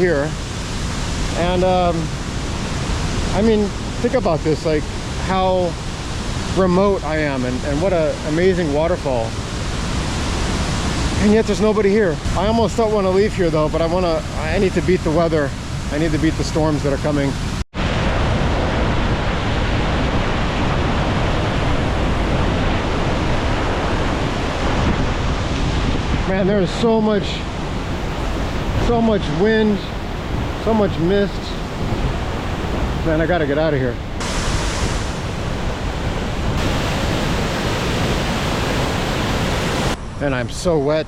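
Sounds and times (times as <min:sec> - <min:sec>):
waterfall roar: 0:00.0 - 0:40.8
wind rushing over microphone: 0:00.0 - 0:41.0.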